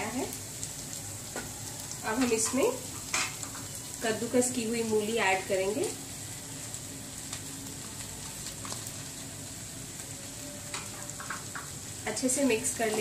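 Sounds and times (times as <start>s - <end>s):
pan sizzling: 0.0s - 13.0s.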